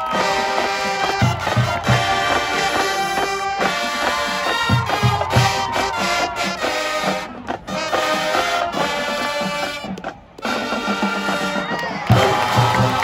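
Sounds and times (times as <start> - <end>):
brass horns playing: 0.0 - 13.0
drumline beating: 0.0 - 13.0.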